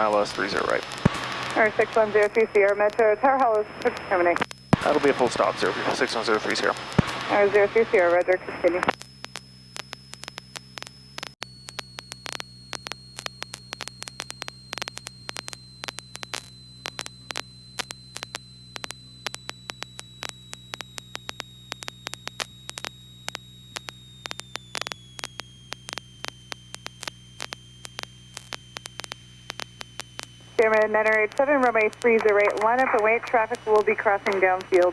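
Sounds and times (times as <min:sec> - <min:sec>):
electrical hum: 0:00.0 - 0:34.9
faint high whine: 0:00.0 - 0:34.9
static clicks and crackle: 0:00.0 - 0:34.9.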